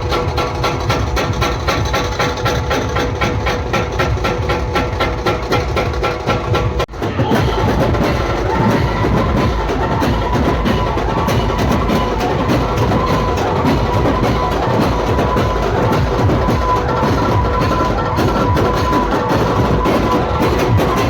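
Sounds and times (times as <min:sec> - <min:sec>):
dense busy drumming: 0:00.0 - 0:21.0.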